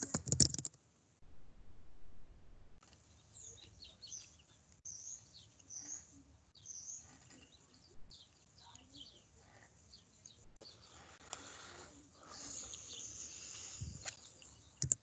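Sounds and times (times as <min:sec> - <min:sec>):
low room noise: 0:00.0 - 0:15.0.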